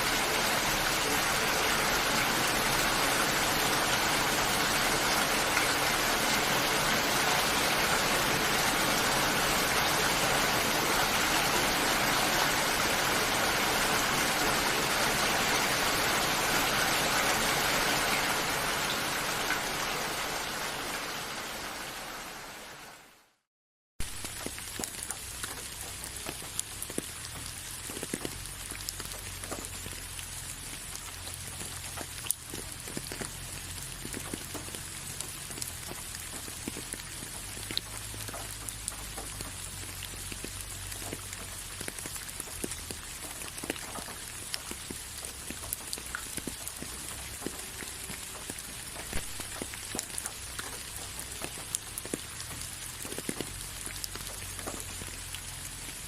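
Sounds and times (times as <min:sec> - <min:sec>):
raindrops ticking on surface: 0:00.0 - 0:22.5, 0:24.0 - 0:56.0
rain falling: 0:00.0 - 0:56.0.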